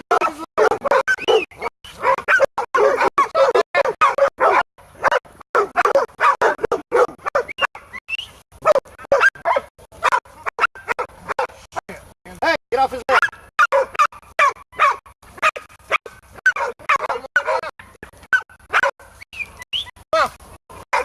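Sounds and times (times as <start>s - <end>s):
dogs barking rapidly: 0.0s - 8.0s, 8.6s - 11.8s, 13.0s - 19.8s, 20.7s - 21.0s.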